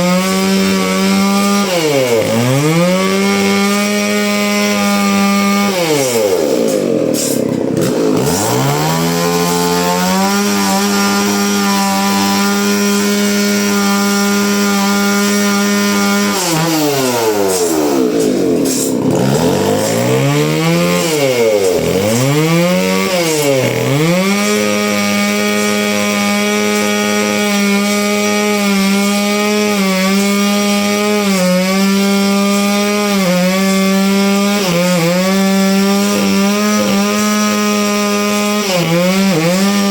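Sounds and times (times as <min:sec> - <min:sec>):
engine saw cutting wood: 0:00.0 - 0:39.9.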